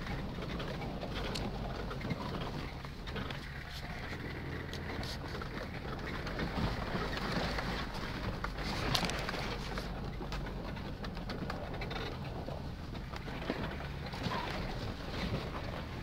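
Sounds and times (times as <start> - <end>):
vehicle engine at low revs: 0.0 - 16.0.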